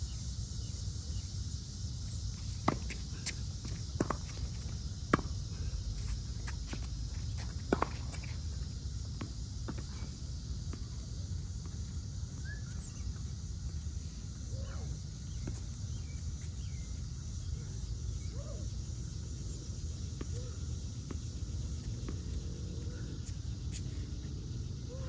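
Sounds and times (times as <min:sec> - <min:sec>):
insect hiss: 0:00.0 - 0:25.0.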